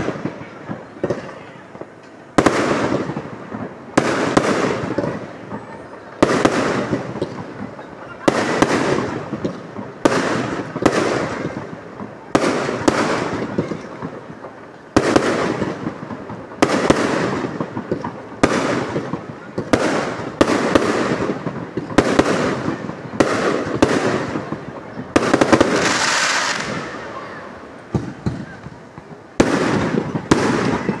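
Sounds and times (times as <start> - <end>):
fireworks bangs with echo: 0.0 - 31.0.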